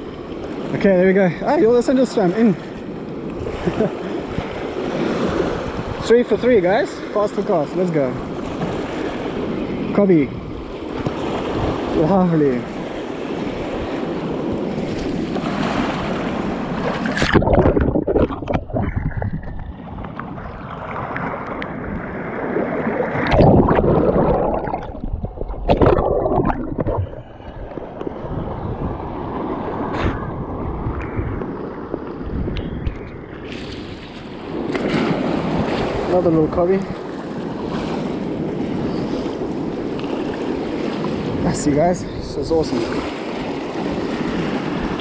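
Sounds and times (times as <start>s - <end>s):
sea water surging: 0.0s - 45.0s
surf surges: 0.0s - 45.0s.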